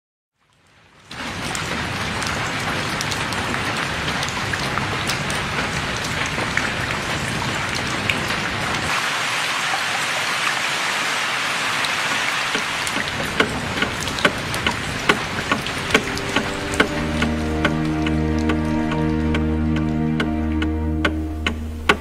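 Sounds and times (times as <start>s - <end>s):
rain on tiled roofs: 0.4s - 22.0s.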